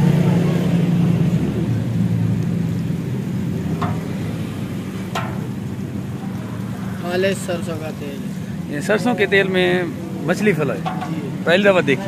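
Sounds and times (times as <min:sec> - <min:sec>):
wood fire rumbling and hissing: 0:00.0 - 0:12.0.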